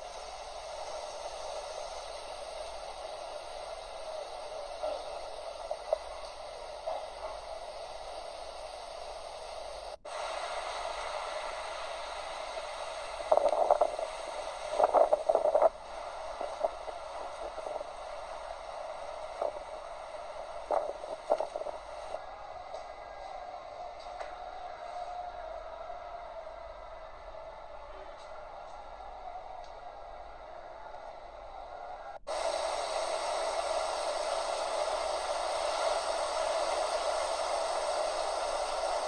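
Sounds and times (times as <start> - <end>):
rough noise bursts: 0.0 - 39.0
steady rain: 0.0 - 39.0.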